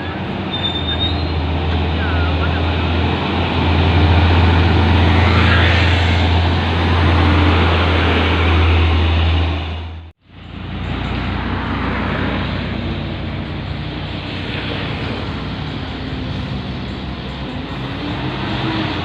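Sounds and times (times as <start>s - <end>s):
engine and road noise: 0.0s - 19.0s.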